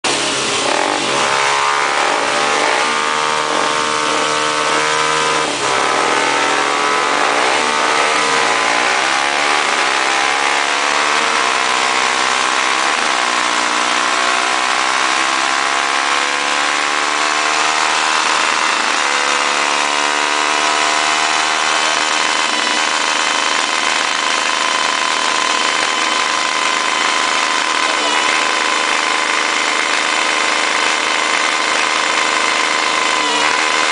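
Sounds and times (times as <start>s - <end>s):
motorcycle engine revving under load: 0.0s - 33.9s.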